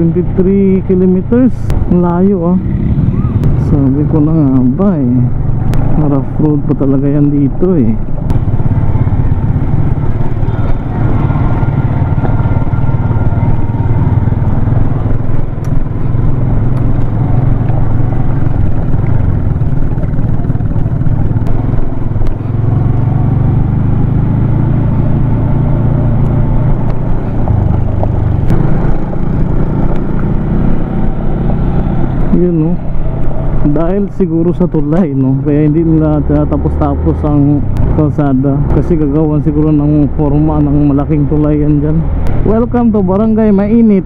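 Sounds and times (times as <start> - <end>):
motorcycle engine running: 0.0 - 44.0
rumble of riding on gravel: 0.0 - 44.0.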